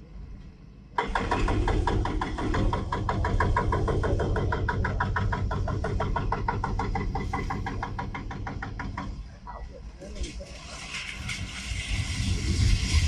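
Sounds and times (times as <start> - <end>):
engine clattering: 1.0 - 13.0.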